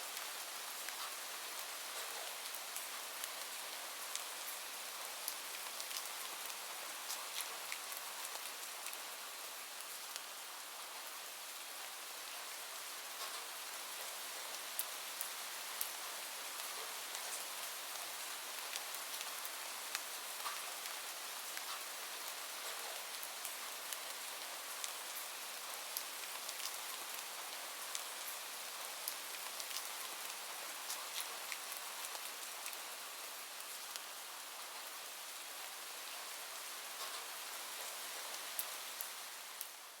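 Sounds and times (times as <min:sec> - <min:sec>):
steady rain hiss: 0:00.0 - 0:40.0
raindrops striking a surface: 0:00.1 - 0:11.0, 0:12.4 - 0:35.1, 0:35.7 - 0:40.0.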